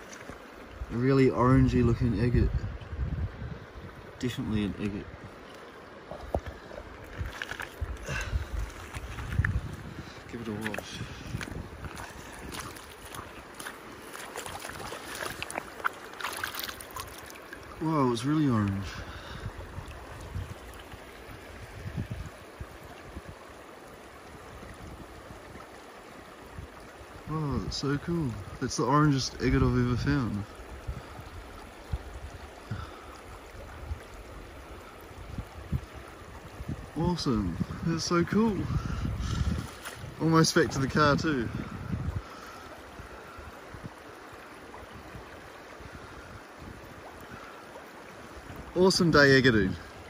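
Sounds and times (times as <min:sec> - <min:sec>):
river water flowing over stones: 0:00.0 - 0:50.0.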